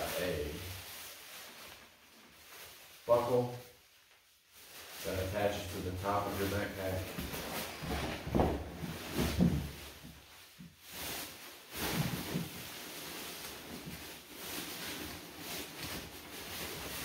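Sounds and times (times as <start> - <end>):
nylon rain cover rustling: 0.0 - 17.0.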